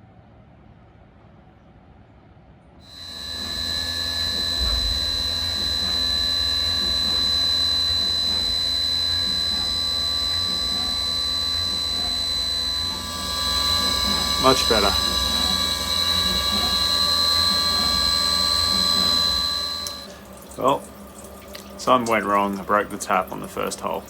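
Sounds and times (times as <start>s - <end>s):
milling machine spindle whine: 2.9s - 24.0s.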